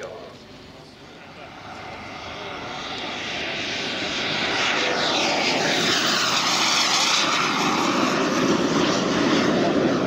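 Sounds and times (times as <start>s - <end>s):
model jet turbine rush and whine: 0.0s - 10.0s.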